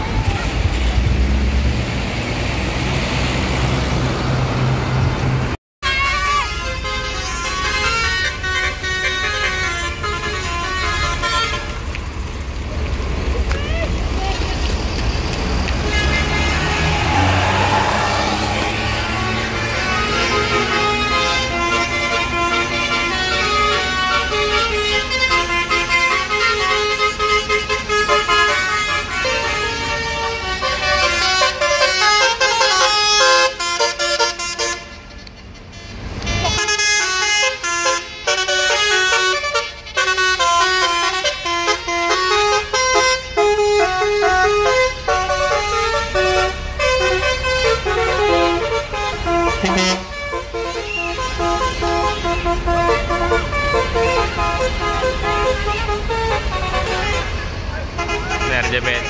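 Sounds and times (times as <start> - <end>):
air horns playing a tune: 5.8 - 11.9, 15.8 - 35.2, 36.2 - 59.0.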